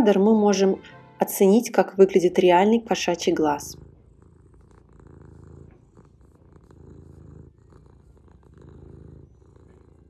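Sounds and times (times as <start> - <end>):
cat purring: 1.6 - 10.0.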